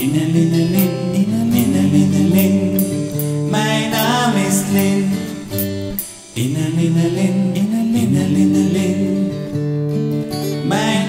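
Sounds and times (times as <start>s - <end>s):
children's song music: 0.0s - 9.6s.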